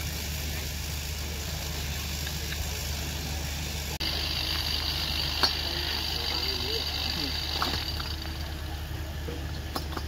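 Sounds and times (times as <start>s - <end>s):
low mechanical drone: 0.0s - 10.0s.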